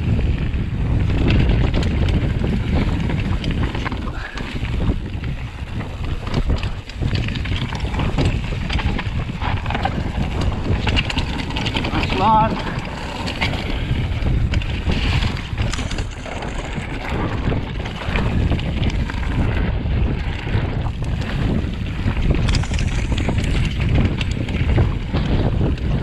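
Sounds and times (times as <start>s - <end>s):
bike knocking and rattling: 0.0s - 26.0s
bike tyres rumbling on rocks: 0.0s - 26.0s
wind buffeting microphone: 0.0s - 26.0s.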